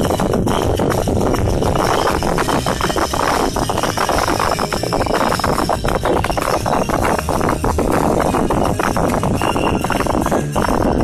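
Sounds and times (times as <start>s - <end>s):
constant rumble: 0.0s - 11.0s.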